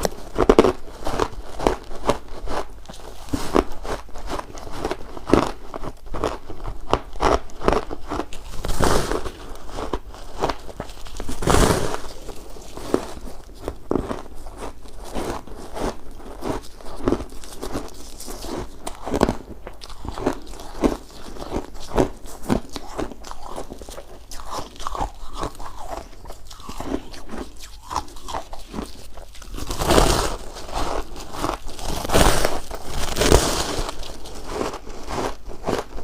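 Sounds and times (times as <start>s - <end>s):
chewing crunchy ice: 0.0s - 36.0s.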